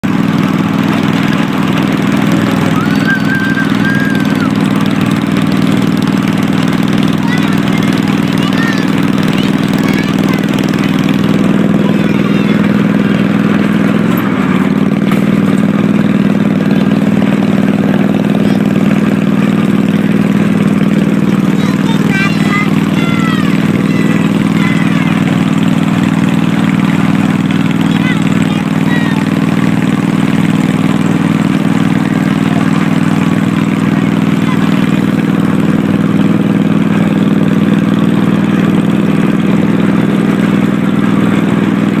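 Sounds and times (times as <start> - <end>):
small engine running: 0.0 - 42.0.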